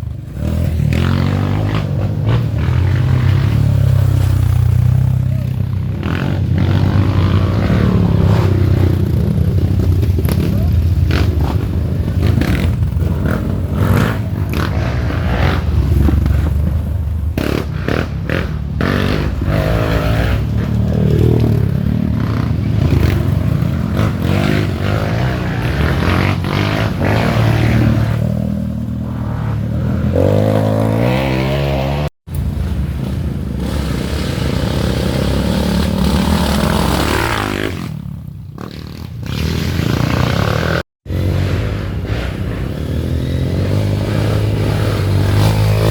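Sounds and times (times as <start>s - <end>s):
dirt bikes revving: 0.0s - 45.9s.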